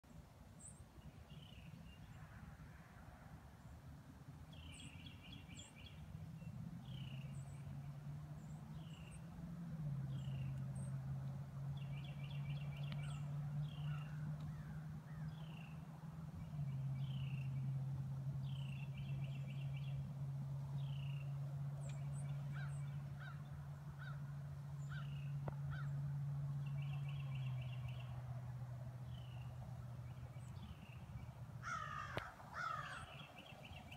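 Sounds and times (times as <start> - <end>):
songbirds calling: 4.5 - 33.9.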